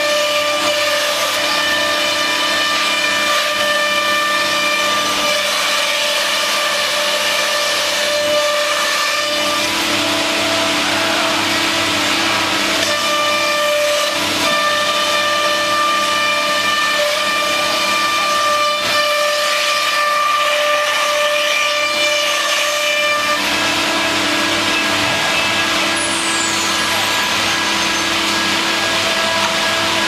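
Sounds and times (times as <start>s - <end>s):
loud machine hiss: 0.0s - 30.0s
machine spindle whine: 0.0s - 30.0s.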